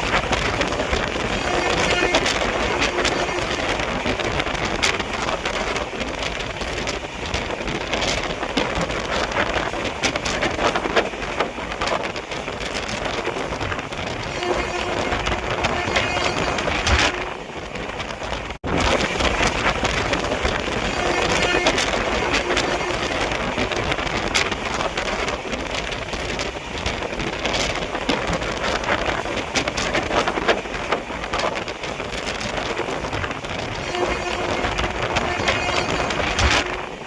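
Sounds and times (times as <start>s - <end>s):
heavy rain: 0.0s - 37.0s.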